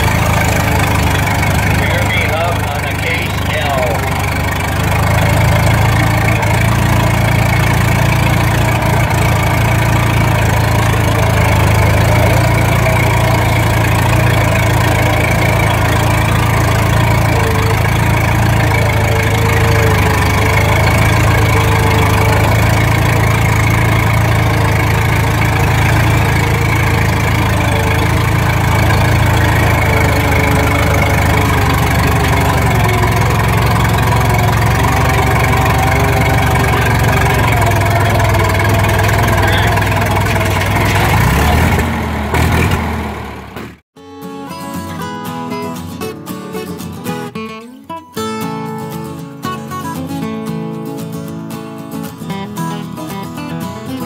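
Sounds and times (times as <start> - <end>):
tractor engine running under load: 0.0 - 43.8.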